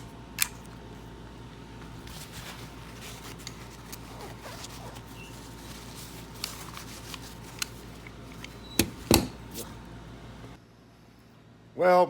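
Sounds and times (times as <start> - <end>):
faint clicks and handling noise: 0.0 - 9.8
steady low hum: 0.0 - 11.9.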